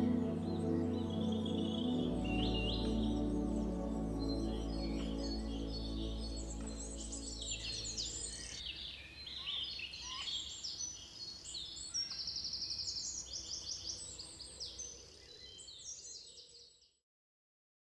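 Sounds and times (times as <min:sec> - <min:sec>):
songbirds chirping: 0:00.0 - 0:16.8.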